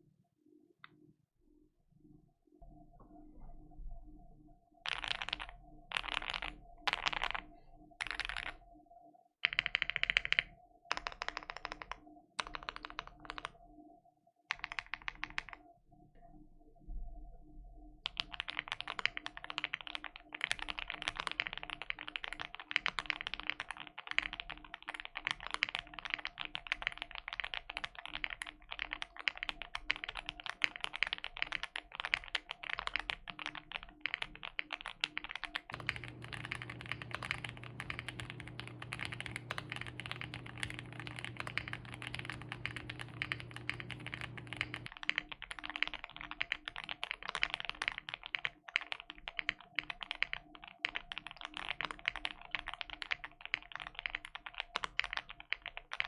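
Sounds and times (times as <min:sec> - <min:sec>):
fast mechanical keyboard typing: 0:04.9 - 0:08.6, 0:09.4 - 0:13.5, 0:14.5 - 0:15.6, 0:18.0 - 0:56.0.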